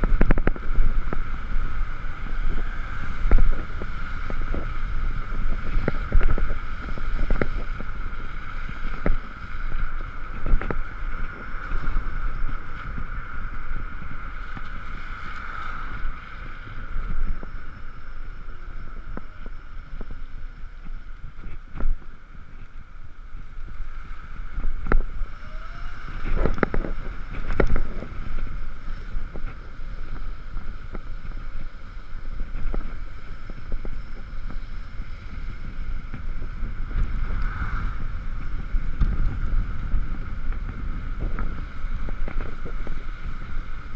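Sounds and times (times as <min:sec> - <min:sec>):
tyre noise on wet road: 0:00.0 - 0:43.9
wind rushing over microphone: 0:00.0 - 0:43.9.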